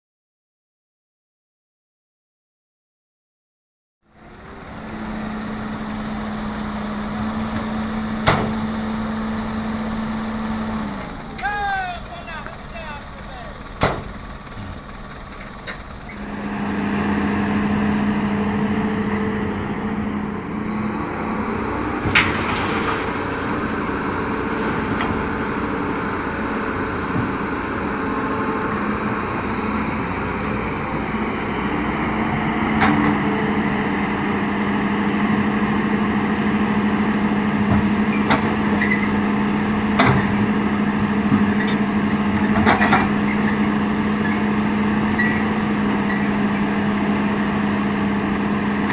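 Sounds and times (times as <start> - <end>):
excavator diesel engine working: 4.1 - 48.9.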